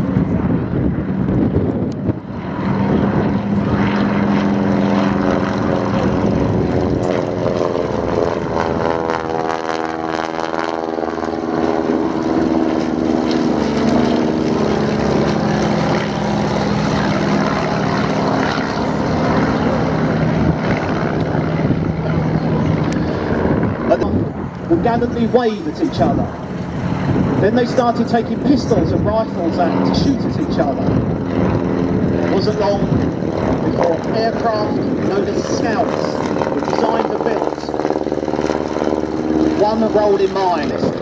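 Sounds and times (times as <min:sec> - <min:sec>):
plane passing low overhead: 0:00.0 - 0:41.0
propeller aircraft engines droning: 0:00.0 - 0:41.0.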